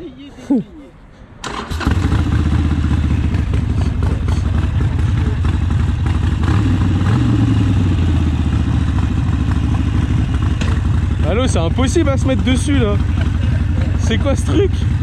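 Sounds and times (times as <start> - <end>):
motorcycle engine idling: 1.7 - 15.0.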